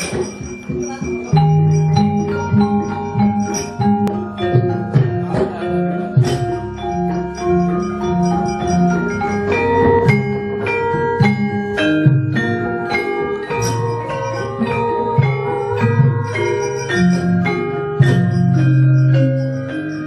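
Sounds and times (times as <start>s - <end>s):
gamelan music: 0.0s - 20.0s.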